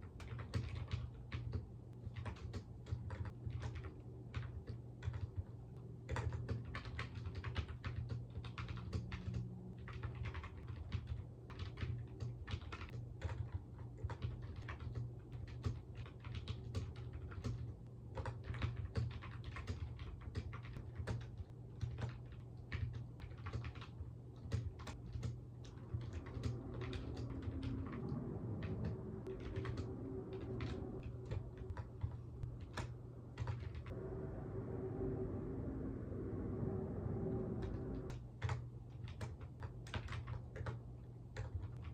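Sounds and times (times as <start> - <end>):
typing on computer keyboard: 0.0 - 34.0, 38.1 - 41.9
steady low hum: 0.0 - 41.9.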